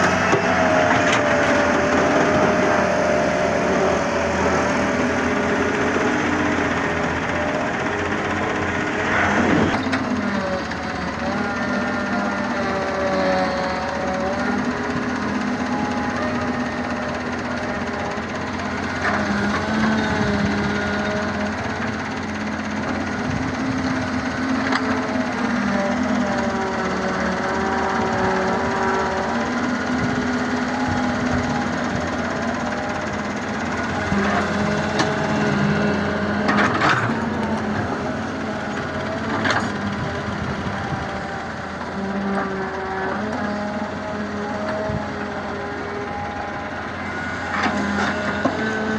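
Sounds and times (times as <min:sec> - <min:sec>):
engine drone: 0:00.0 - 0:48.9.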